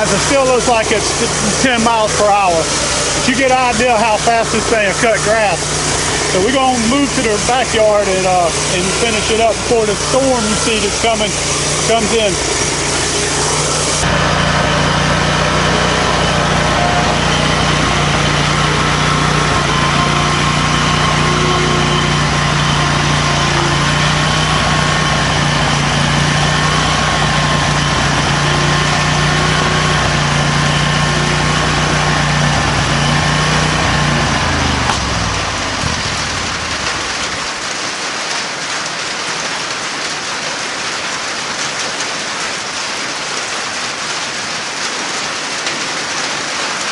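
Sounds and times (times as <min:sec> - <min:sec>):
lawn mower engine running: 0:00.0 - 0:38.4
rain hissing: 0:00.0 - 0:46.9.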